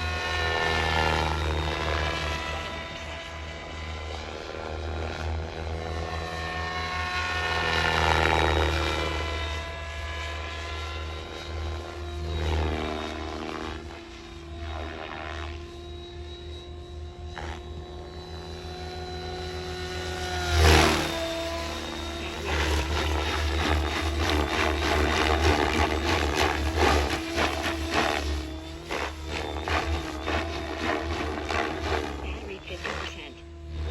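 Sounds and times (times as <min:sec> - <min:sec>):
rc helicopter rotor whine: 0:00.0 - 0:33.9.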